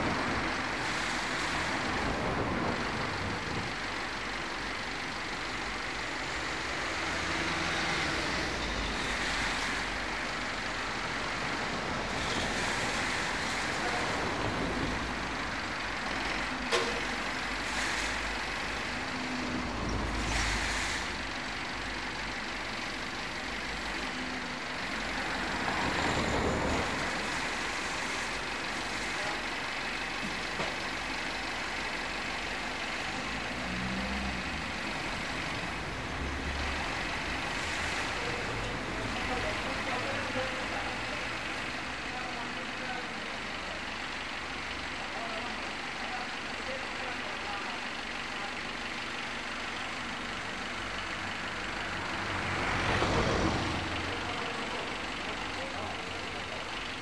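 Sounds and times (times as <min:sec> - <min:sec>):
street traffic: 0:00.0 - 0:57.0
truck engine running: 0:00.0 - 0:57.0.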